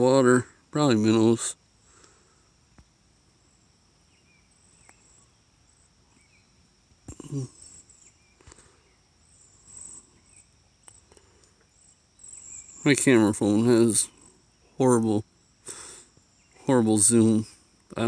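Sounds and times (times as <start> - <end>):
crickets chirping: 0.0 - 18.0
faint bird chirps: 0.0 - 18.0.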